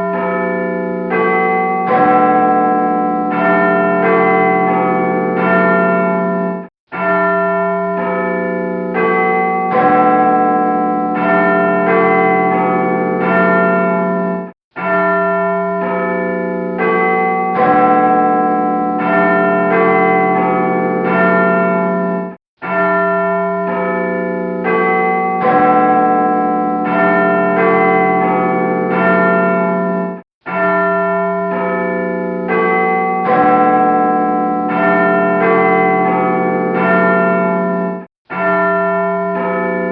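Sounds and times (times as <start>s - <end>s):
church bells ringing a tune: 0.0s - 39.9s.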